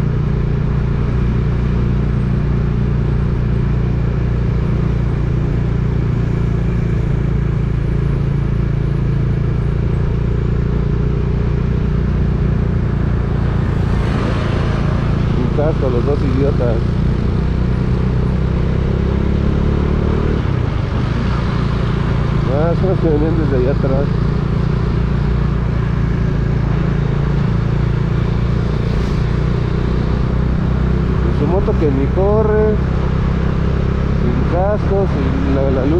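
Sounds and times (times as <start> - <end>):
road noise: 0.0 - 35.9
vehicle engine running: 0.0 - 35.9.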